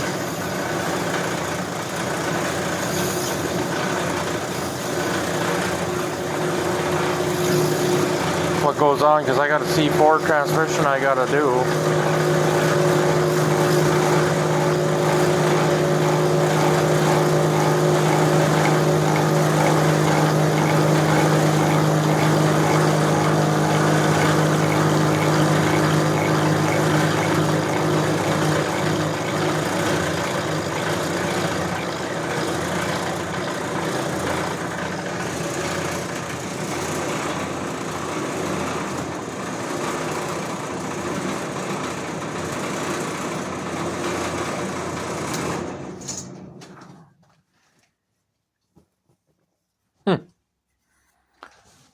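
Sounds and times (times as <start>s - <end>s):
brake lathe humming: 0.0s - 47.1s.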